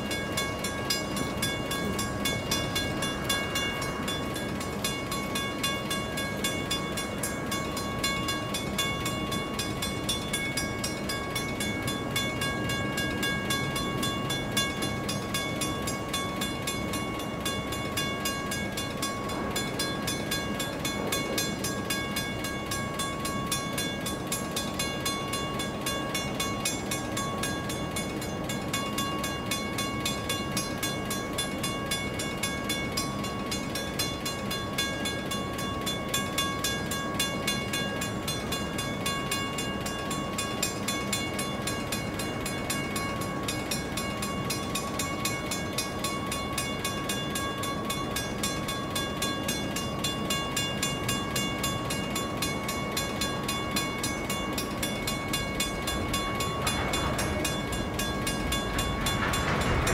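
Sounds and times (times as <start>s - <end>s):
freight train rail rumble: 0.0s - 59.9s
level crossing bell ringing: 0.0s - 59.9s.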